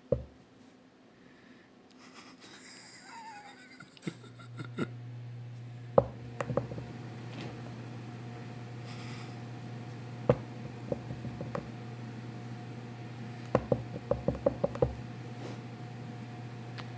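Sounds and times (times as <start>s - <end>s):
steady low hum: 2.1s - 16.9s.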